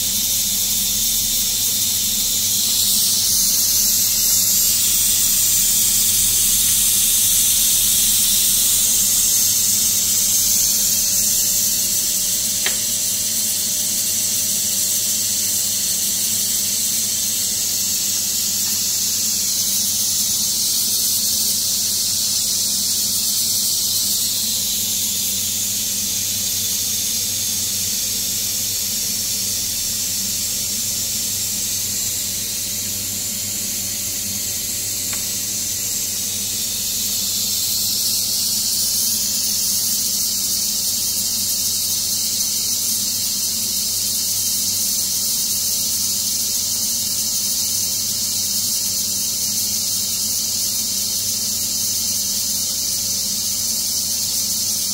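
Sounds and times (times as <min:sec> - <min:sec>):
multi-cooker venting steam hiss: 0:00.0 - 0:54.9.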